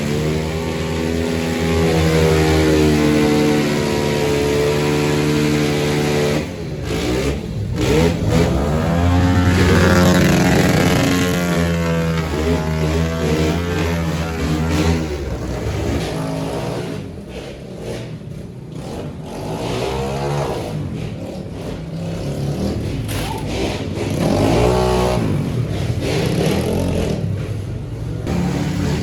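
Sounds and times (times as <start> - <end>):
pit bike engines revving: 0.0 - 29.0.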